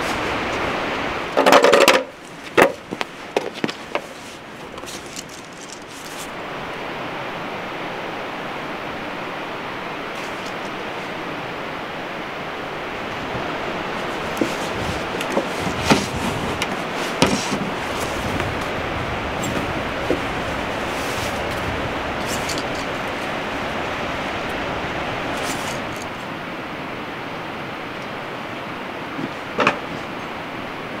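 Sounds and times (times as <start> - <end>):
steady rushing outdoor noise: 0.0 - 31.0.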